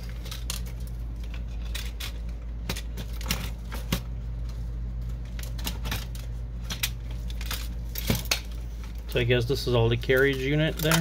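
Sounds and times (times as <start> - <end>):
printer parts clicking and rattling: 0.0 - 4.2, 5.1 - 11.0
steady low hum: 0.0 - 11.0.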